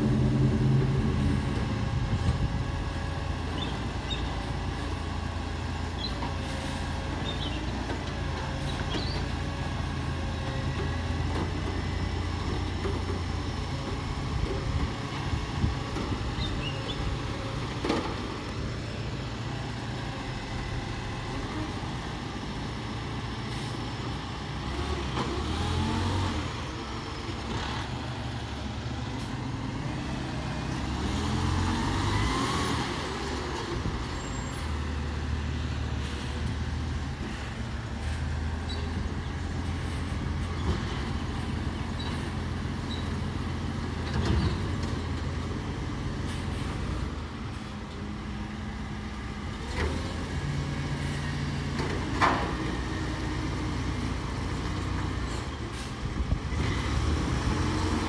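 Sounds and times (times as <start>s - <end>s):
garbage truck diesel engine: 0.0s - 58.0s.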